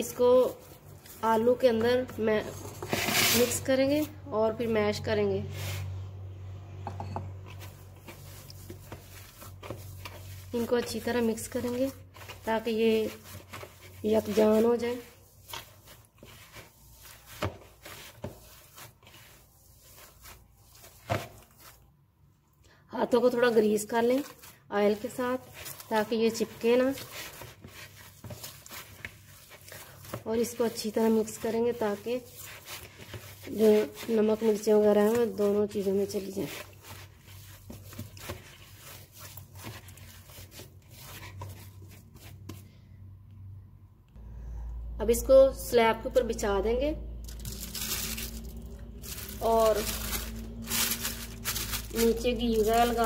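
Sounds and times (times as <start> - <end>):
hand squishing dough in bowl: 0.0 - 22.4, 23.0 - 43.3, 45.0 - 53.0.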